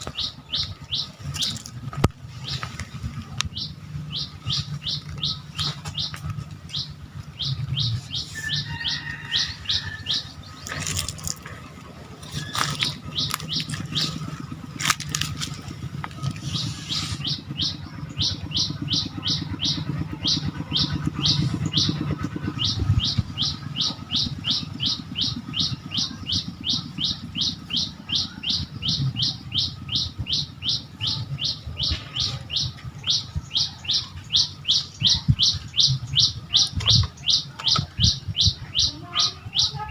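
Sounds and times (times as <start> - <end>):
bird calling with high notes: 0.0 - 39.9
low steady rumble: 0.0 - 39.9.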